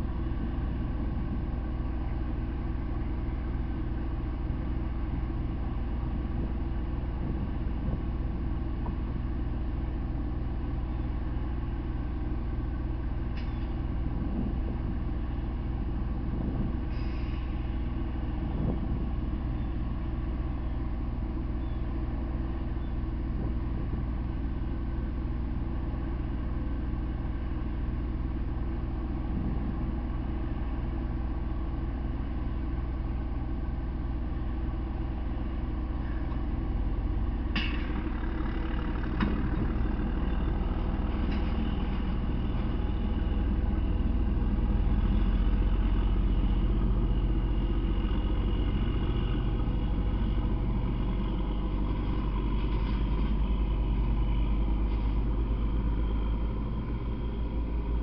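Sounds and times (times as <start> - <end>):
rail car engine idling: 0.0 - 58.0.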